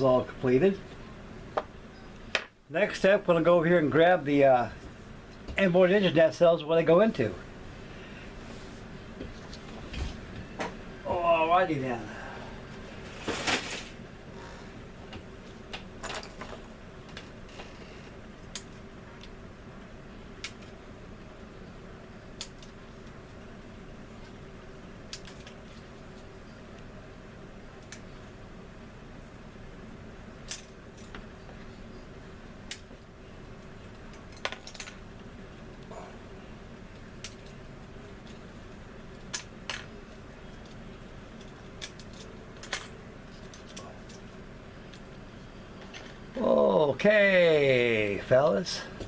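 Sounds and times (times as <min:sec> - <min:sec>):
steady background hum: 0:00.0 - 0:49.0.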